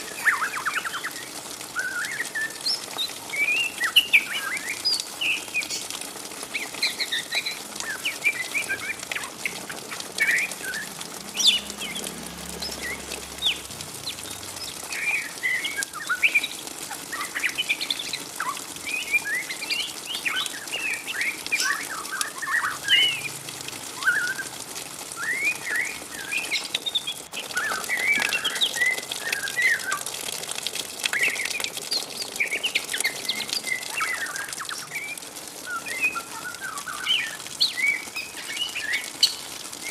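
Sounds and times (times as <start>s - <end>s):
bird twittering song: 0.0s - 23.3s, 25.2s - 30.1s, 31.1s - 39.9s.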